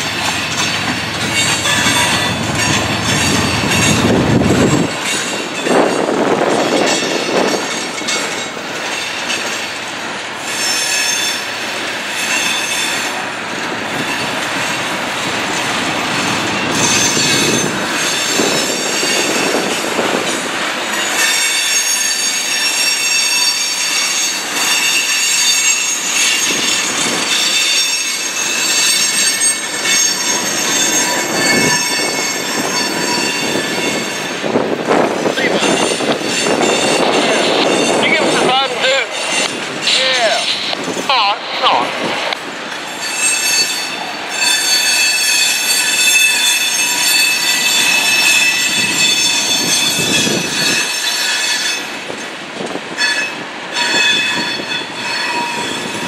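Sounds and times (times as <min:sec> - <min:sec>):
train wheels squealing: 0:00.0 - 0:09.8, 0:10.4 - 0:13.2, 0:16.2 - 0:38.4, 0:42.9 - 0:56.0
rumble and clatter of train cars: 0:00.0 - 0:56.0.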